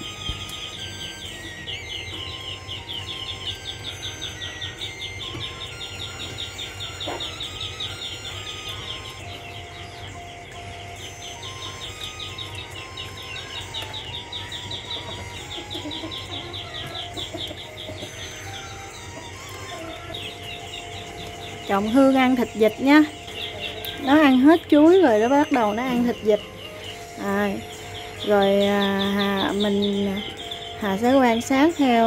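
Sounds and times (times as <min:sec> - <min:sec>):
insects chirping trill: 0:00.0 - 0:32.0.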